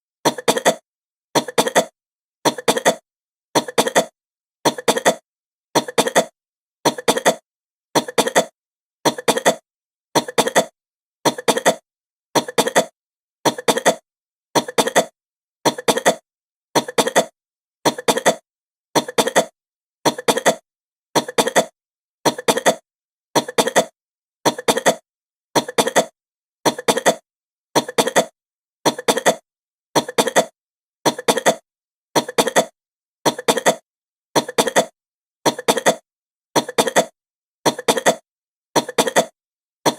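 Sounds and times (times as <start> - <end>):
woman coughing: 1.4 - 3.0, 3.6 - 5.2, 5.8 - 18.4, 19.0 - 20.6, 21.2 - 39.9.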